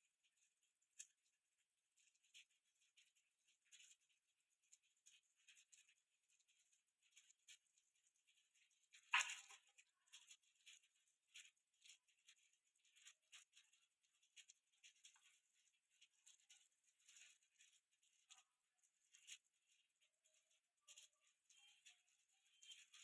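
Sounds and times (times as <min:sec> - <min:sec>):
light clicks and scratches: 0:00.0 - 0:23.0.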